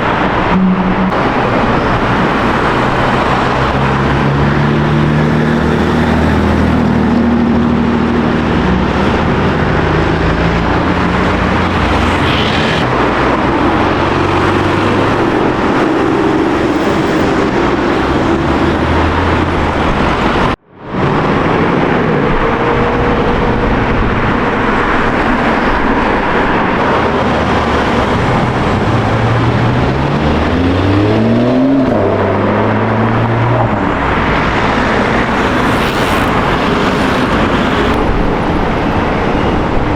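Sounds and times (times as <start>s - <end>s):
car engines pulling away: 0.0s - 39.9s.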